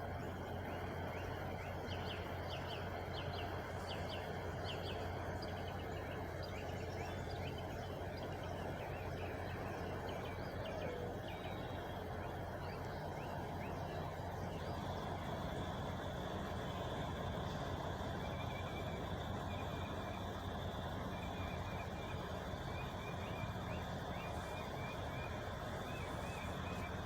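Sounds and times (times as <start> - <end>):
birds chirping: 0.0 - 27.0
truck engine idling: 0.0 - 27.0.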